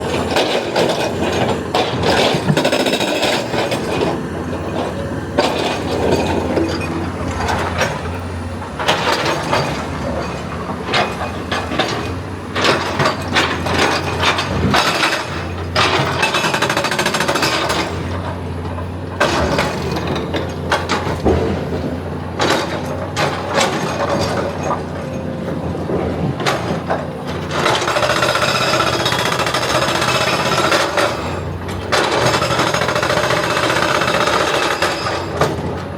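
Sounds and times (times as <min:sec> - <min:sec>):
excavator engine running: 0:00.0 - 0:35.9.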